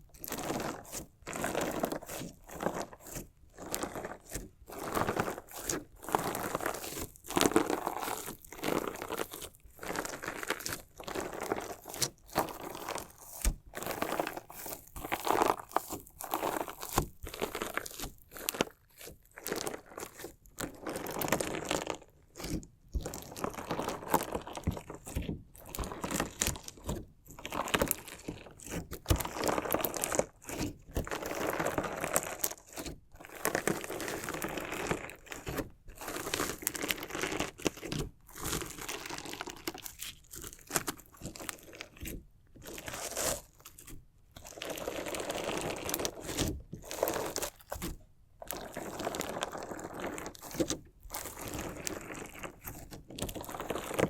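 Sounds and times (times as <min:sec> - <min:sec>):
crunchy slime crackling: 0:00.1 - 0:54.0.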